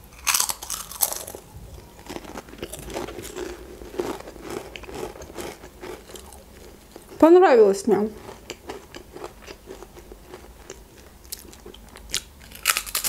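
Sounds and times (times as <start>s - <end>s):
crisp crunching bite: 0.1s - 7.2s, 8.2s - 13.0s
crunchy chewing: 0.1s - 7.2s, 8.1s - 13.0s.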